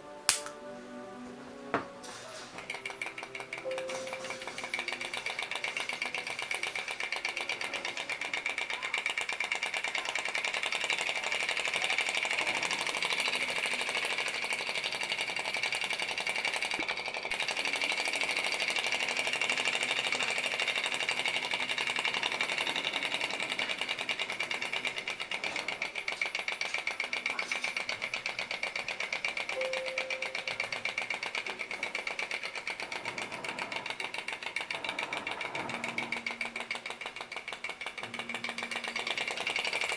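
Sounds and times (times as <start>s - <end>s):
model engine clattering: 2.0s - 39.9s.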